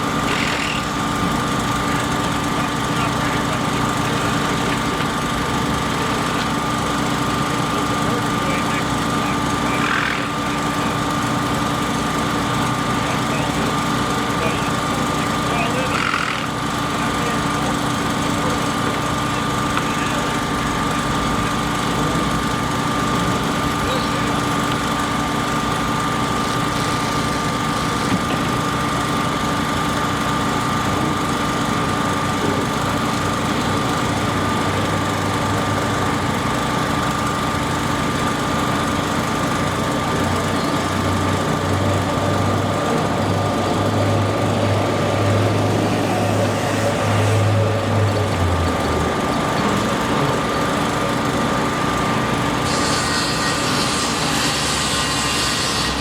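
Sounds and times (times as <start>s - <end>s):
machine engine running: 0.0s - 56.0s.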